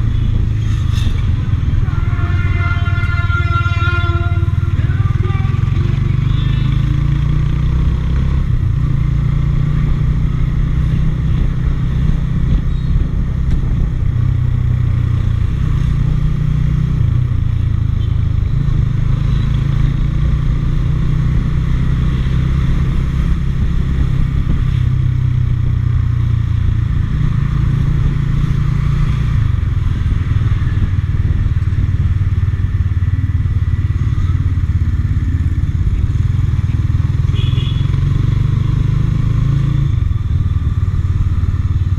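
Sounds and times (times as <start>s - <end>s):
motorcycle engine: 0.0s - 41.9s
road noise: 0.0s - 41.9s.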